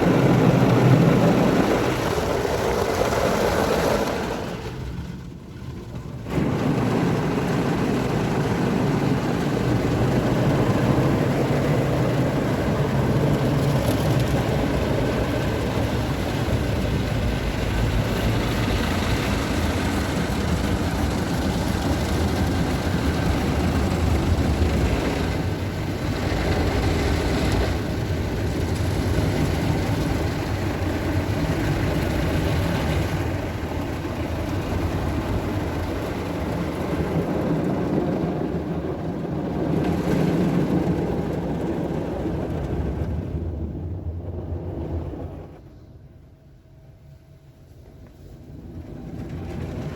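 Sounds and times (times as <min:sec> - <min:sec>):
car wash machinery and spray: 0:00.0 - 0:49.9.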